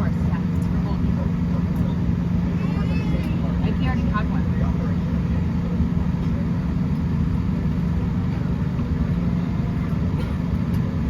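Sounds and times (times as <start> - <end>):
airliner rumble and hum: 0.0 - 11.0.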